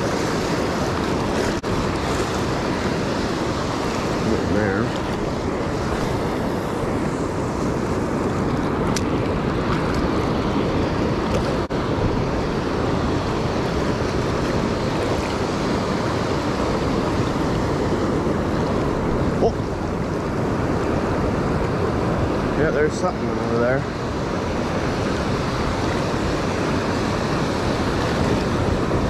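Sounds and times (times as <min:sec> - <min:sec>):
ocean surf rushing: 0:00.0 - 0:29.0
wind buffeting microphone: 0:00.0 - 0:29.0.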